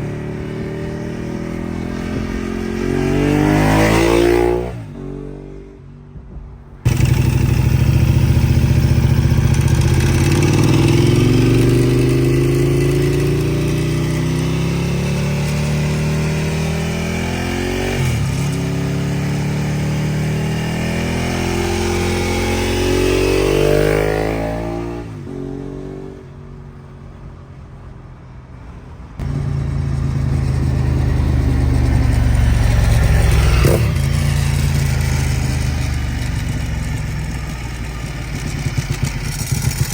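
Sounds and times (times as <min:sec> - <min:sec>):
motorcycle engine revving: 0:00.0 - 0:05.5, 0:06.9 - 0:26.1, 0:29.2 - 0:39.9.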